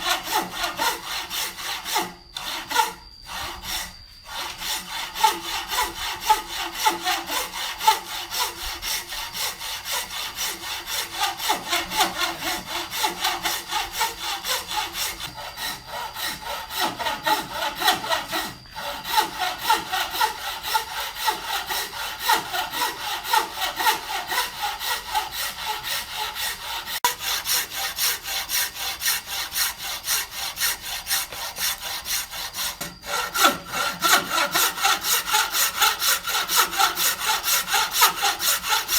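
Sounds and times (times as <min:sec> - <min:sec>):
hand saw cutting wood: 0:00.0 - 0:38.9.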